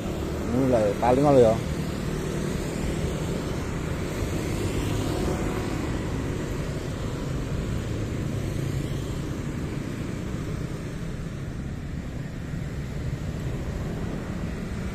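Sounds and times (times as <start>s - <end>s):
road and wind noise: 0.0s - 14.9s.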